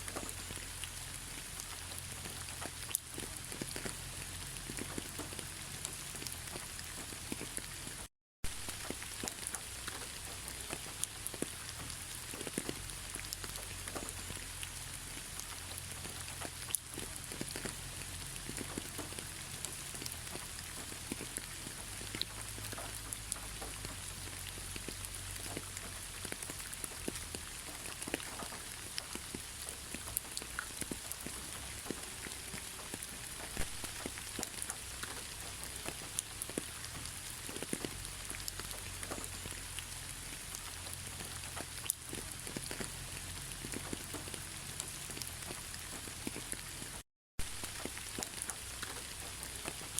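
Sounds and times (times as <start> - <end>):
raindrops pattering on a surface: 0.0 - 49.9
steady rain hiss: 0.0 - 49.9.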